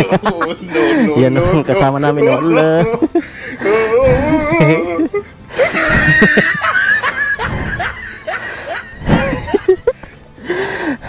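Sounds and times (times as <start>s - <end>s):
people laughing: 0.0s - 10.3s.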